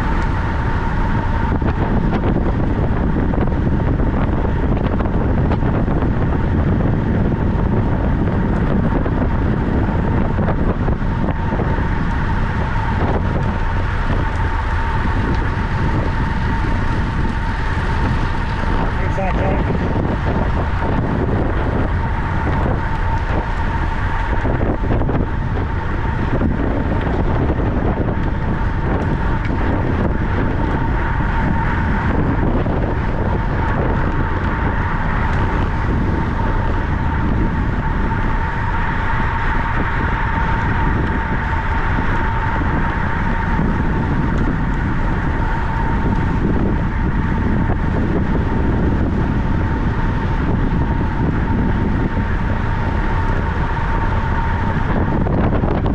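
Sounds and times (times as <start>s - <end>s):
thin high whine: 0.0s - 55.9s
wind rushing over microphone: 0.0s - 55.9s.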